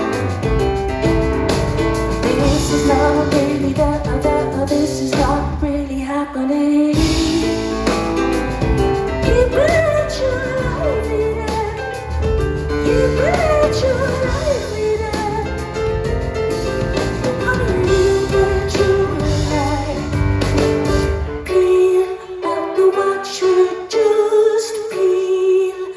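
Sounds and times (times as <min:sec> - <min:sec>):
backing band: 0:00.0 - 0:05.8, 0:06.9 - 0:22.1
piano: 0:00.0 - 0:25.9
woman singing: 0:02.2 - 0:08.3, 0:09.1 - 0:12.1, 0:12.7 - 0:15.9, 0:17.2 - 0:25.9.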